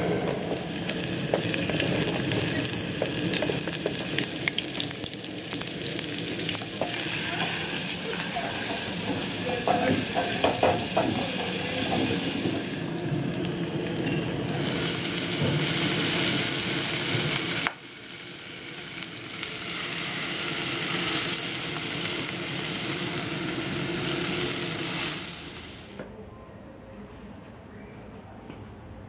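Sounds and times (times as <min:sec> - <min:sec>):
food sizzling in pot: 0:00.0 - 0:26.0.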